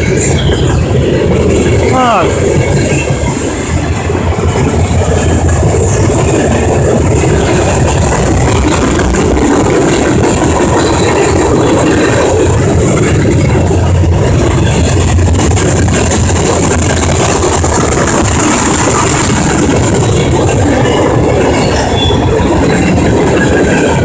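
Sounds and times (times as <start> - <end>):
freight train passing: 0.0 - 24.0.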